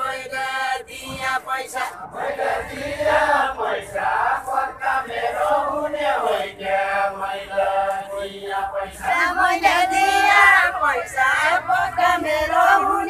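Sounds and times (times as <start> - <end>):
men singing together unaccompanied: 0.0 - 13.0.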